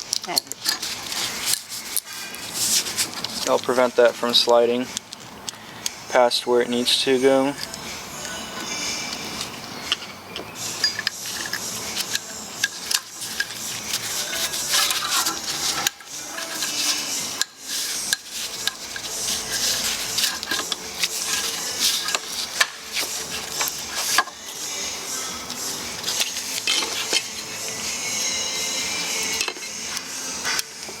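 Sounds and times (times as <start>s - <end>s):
metal parts clinking and scraping: 0.0s - 5.9s, 6.7s - 31.0s.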